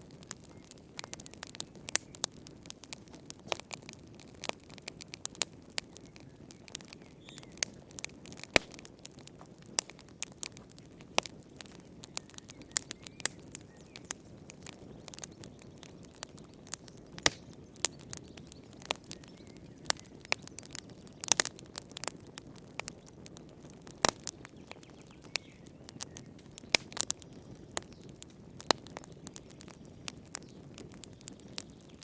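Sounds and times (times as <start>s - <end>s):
fire crackling and popping: 0.0s - 32.0s.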